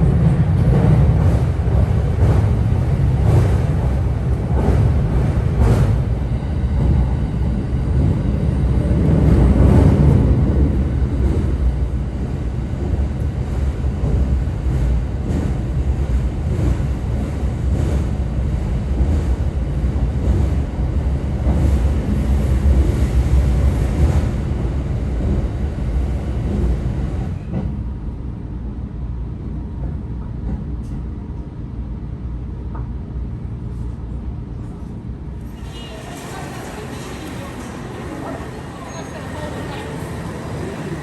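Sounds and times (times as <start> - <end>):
moving passenger train rumble: 0.0 - 41.0.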